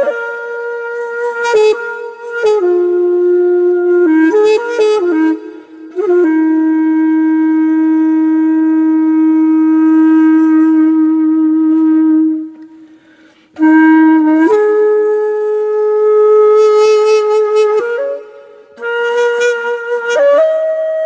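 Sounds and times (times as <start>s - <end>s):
wind instrument holding long notes: 0.0s - 21.0s.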